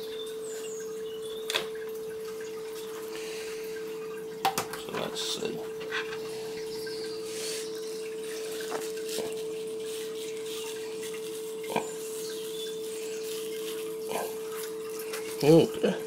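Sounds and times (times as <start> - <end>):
steady mid-pitched hum: 0.0 - 16.0.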